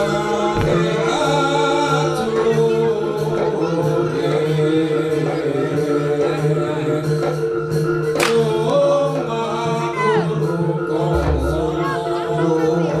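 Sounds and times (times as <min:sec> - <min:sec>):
person singing: 0:00.0 - 0:07.4, 0:08.2 - 0:13.0.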